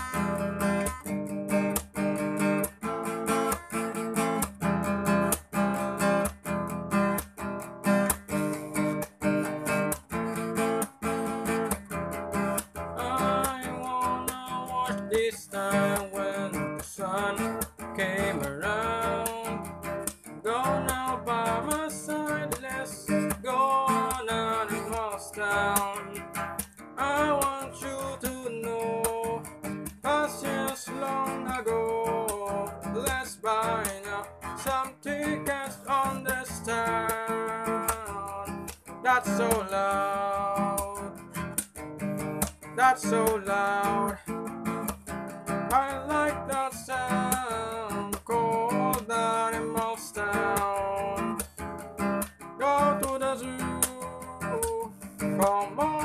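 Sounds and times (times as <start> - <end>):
person singing: 0.0 - 6.2, 13.0 - 41.3, 42.8 - 44.4, 45.6 - 51.5, 52.6 - 56.0
acoustic guitar strumming: 0.0 - 56.0.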